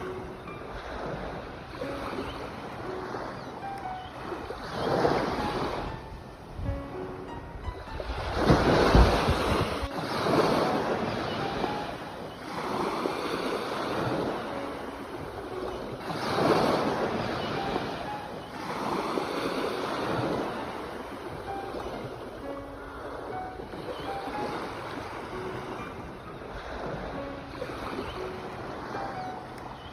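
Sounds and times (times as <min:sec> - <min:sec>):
sea waves breaking on shore: 0:00.0 - 0:29.9.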